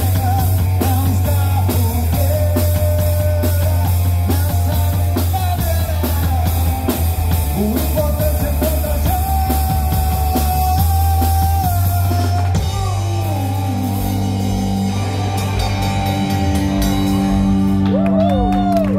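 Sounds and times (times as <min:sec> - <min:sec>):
bass guitar: 0:00.0 - 0:18.9
drum kit: 0:00.0 - 0:18.9
electric guitar: 0:00.0 - 0:18.9.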